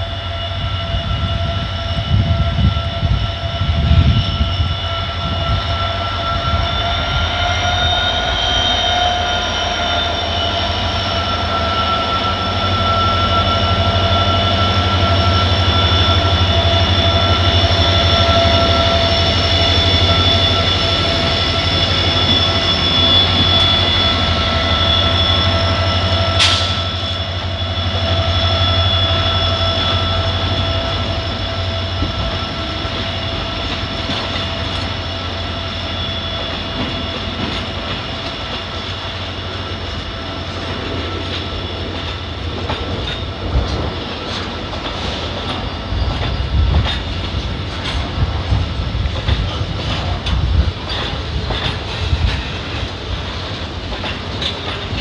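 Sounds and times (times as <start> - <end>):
diesel locomotive passing: 0.0 - 55.0.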